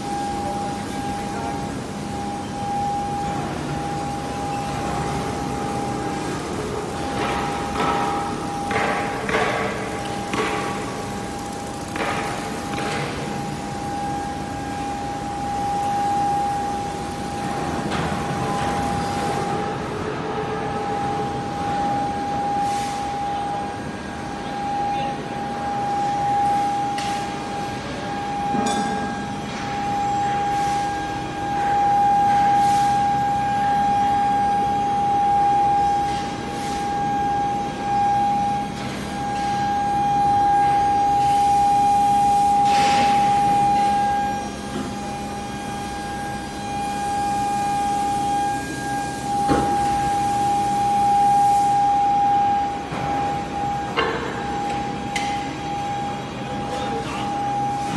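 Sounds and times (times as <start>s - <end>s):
induction furnace whine: 0.0s - 57.9s.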